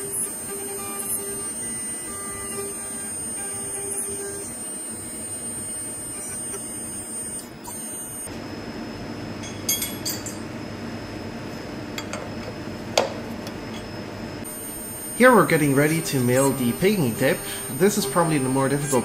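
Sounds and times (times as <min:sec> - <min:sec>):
milling machine whine and hum: 0:00.0 - 0:19.0.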